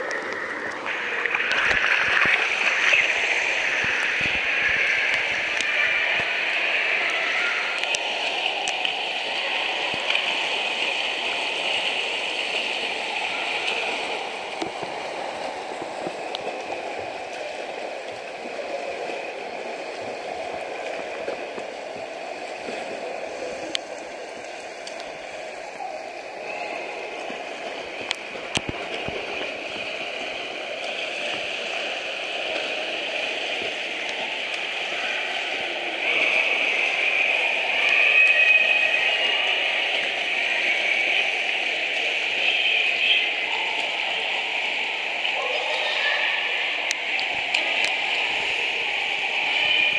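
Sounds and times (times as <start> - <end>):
swimmers splashing water: 0.0 - 49.9.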